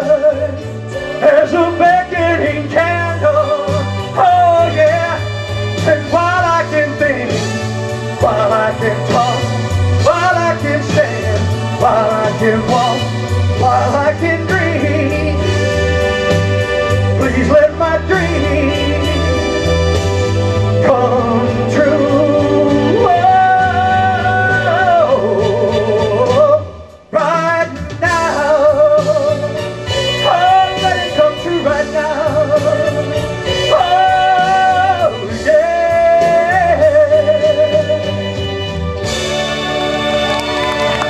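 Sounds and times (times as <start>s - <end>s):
live band playing ballad: 0.0s - 41.0s.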